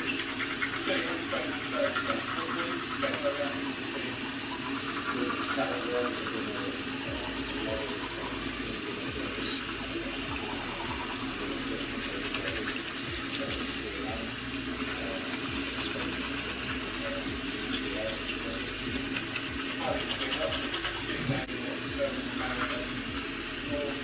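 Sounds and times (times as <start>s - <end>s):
faint voices: 0.0s - 24.0s.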